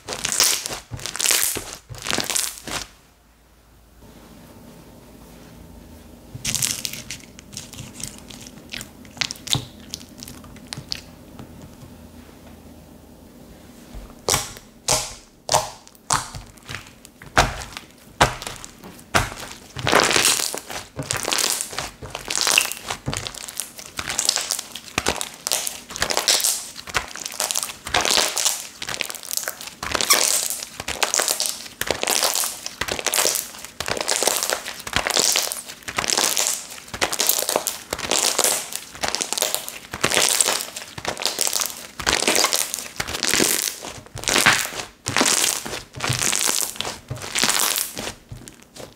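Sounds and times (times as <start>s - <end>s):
slime squishing: 0.0s - 3.0s, 6.4s - 11.2s, 14.2s - 48.9s.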